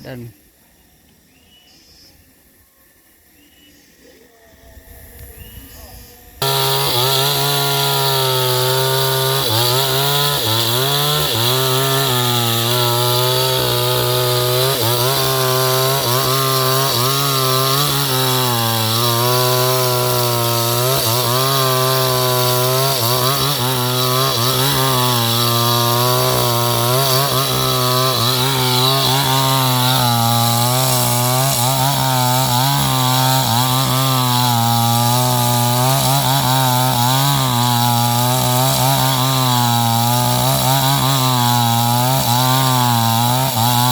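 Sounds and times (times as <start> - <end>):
chainsaw cutting wood: 6.4 - 43.9.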